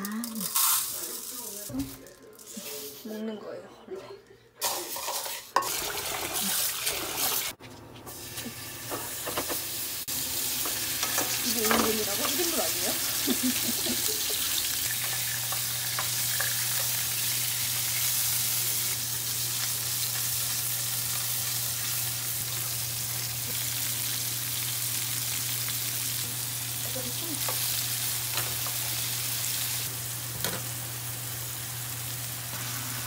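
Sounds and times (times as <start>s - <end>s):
meat and vegetables sizzling in oil: 5.6s - 33.0s.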